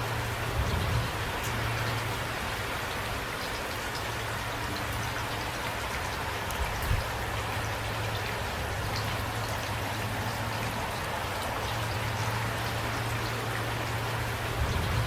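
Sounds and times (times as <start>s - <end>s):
rain falling with ticking drops: 0.0s - 15.0s.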